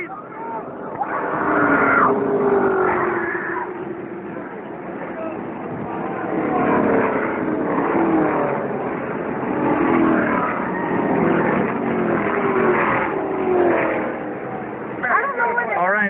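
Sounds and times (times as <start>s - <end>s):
race cars passing by: 0.0s - 16.0s.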